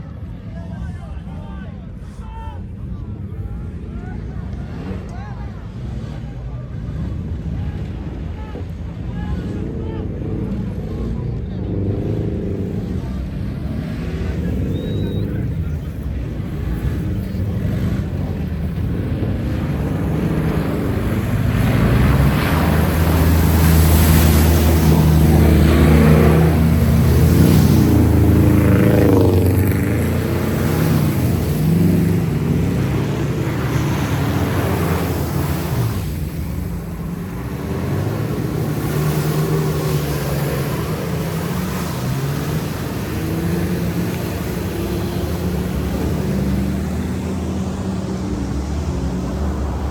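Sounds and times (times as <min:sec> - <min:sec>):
jeep engine revving: 0:03.4 - 0:49.9.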